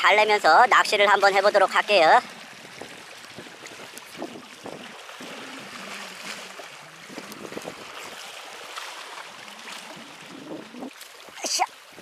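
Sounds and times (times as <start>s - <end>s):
small waves washing onto shore: 0.0s - 12.0s
wind on microphone: 1.8s - 12.0s.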